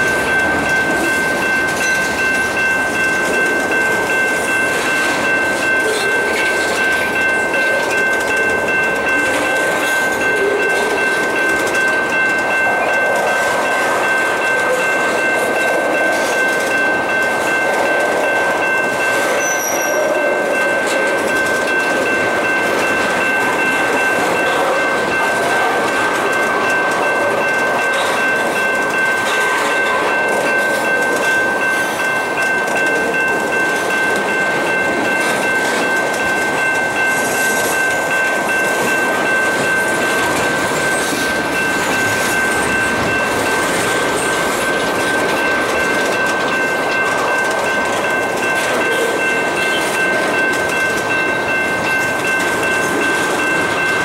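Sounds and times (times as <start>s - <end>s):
freight train wheels rattling on rail: 0.0s - 54.0s.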